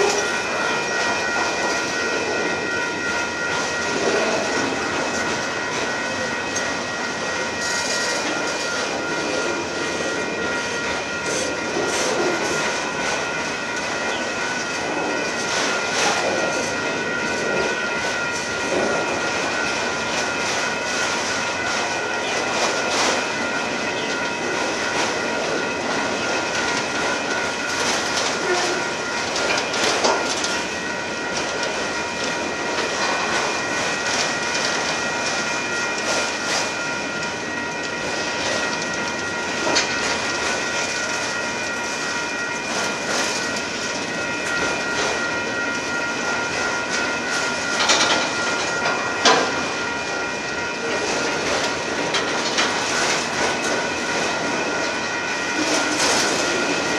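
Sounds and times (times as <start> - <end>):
high-pitched whine: 0.0 - 51.0.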